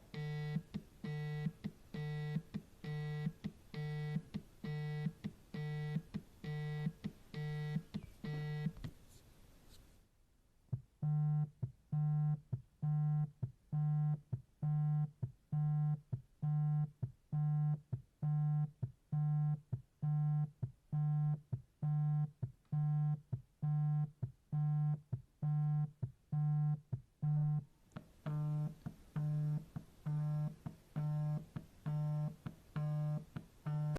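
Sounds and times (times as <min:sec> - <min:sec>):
mobile phone vibrating: 0:00.1 - 0:08.9, 0:11.0 - 0:33.9.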